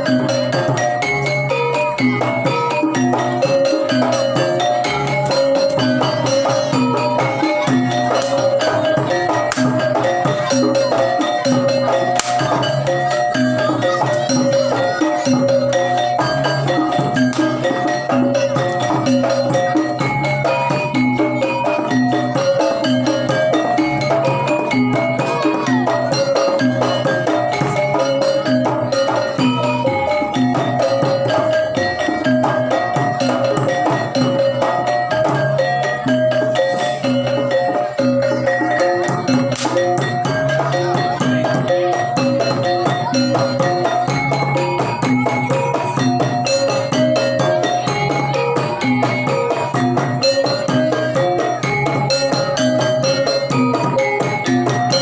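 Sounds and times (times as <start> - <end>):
drum strokes: 0.0 - 55.0
metallophones playing quick runs: 0.0 - 55.0.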